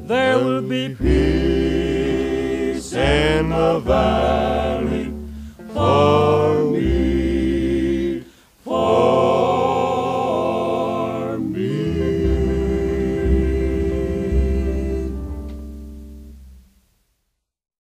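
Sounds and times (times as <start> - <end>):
gospel group singing in harmony: 0.0 - 16.3.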